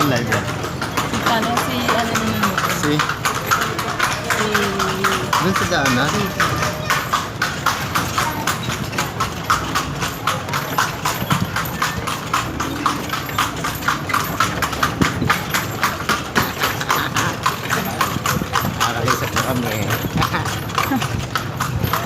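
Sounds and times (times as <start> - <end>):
horse hooves clip-clopping: 0.0 - 22.0.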